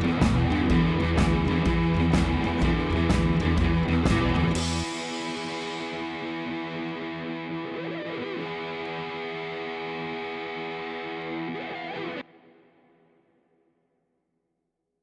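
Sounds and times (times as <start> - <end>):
guitar chords music: 0.0 - 13.4.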